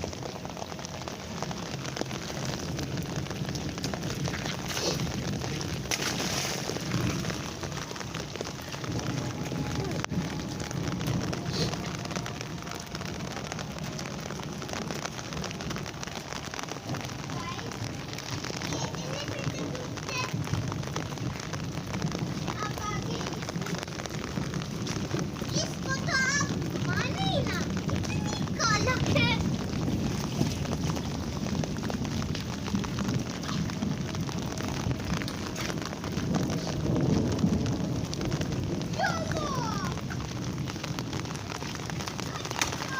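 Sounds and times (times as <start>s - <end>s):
heavy rain pattering: 0.0s - 42.9s.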